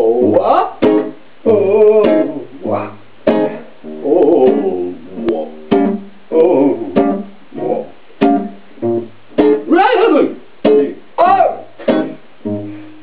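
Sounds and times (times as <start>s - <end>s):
strummed blues guitar chords: 0.0s - 13.0s.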